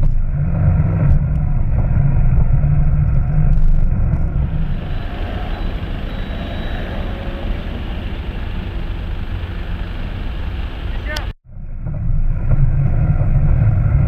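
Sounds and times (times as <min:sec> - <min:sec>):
off-road vehicle engine rumbling: 0:00.0 - 0:14.0.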